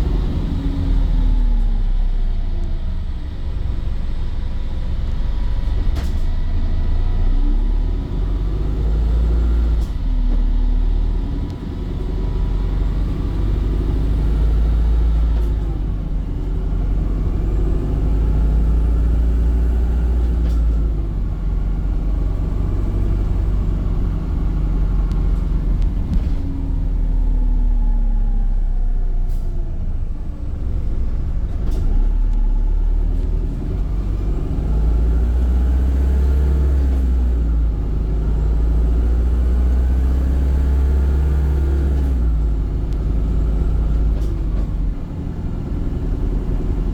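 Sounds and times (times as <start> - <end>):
bus drivetrain rumble and whine: 0.0 - 46.9.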